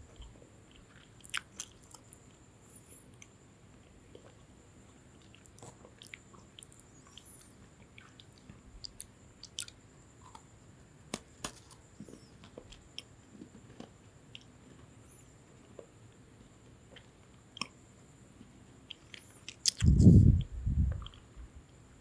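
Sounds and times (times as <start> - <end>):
biscuit crunching while chewed: 0.1 - 2.4, 4.1 - 15.0, 15.6 - 21.3.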